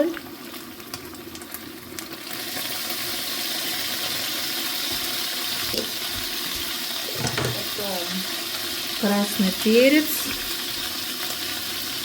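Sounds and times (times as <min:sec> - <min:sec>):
meat frying in a pan: 0:00.0 - 0:12.0
tap water running: 0:00.0 - 0:12.0.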